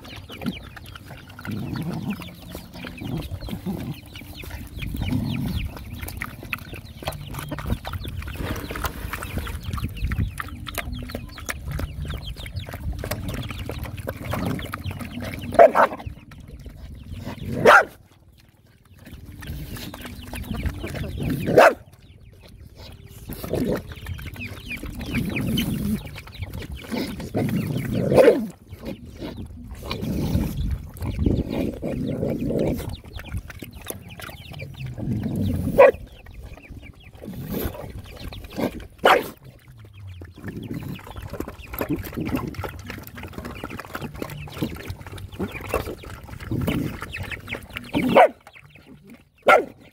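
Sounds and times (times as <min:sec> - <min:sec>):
dogs lapping and slurping food: 0:00.0 - 0:49.9.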